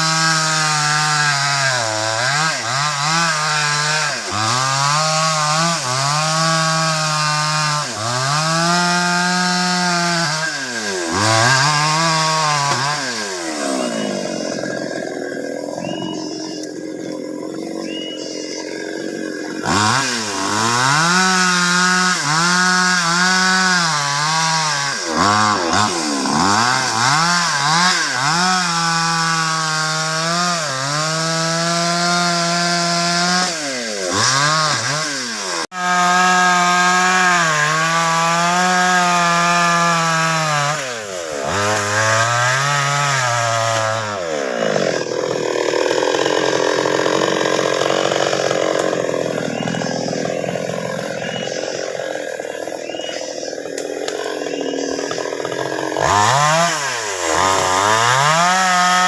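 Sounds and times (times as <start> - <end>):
chainsaw revving: 0.0 - 59.0.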